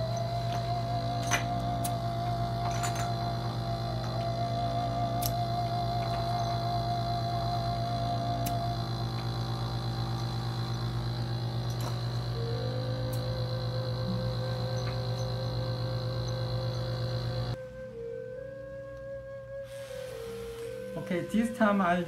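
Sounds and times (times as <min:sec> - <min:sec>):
ambient music with held notes: 0:00.0 - 0:22.0
loud electrical hum: 0:00.0 - 0:22.0.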